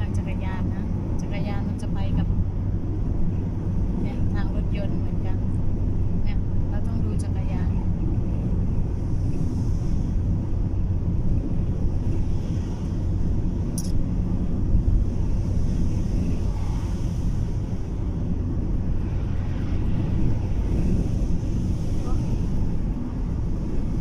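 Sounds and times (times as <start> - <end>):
car driving rumble: 0.0 - 24.0
strong wind: 0.0 - 24.0.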